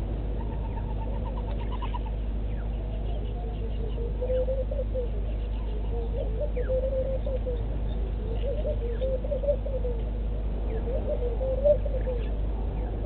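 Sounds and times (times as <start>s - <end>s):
steady low hum: 0.0s - 13.0s
birds warbling and chirping: 0.2s - 13.0s.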